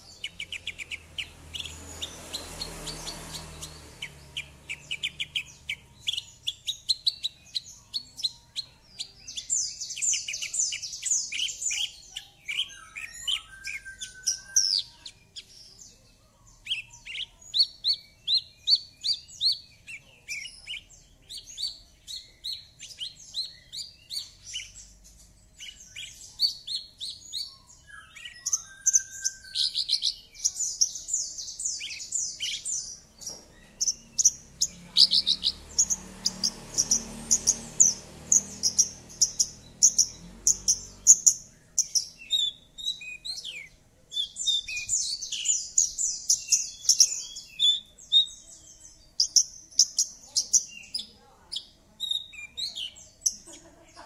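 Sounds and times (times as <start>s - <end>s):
bird song with chirps and trills: 0.0s - 54.0s.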